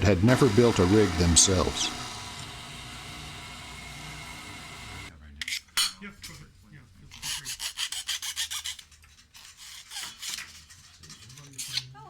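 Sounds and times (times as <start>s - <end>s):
hand tool rasping: 0.0s - 6.4s, 7.0s - 12.0s.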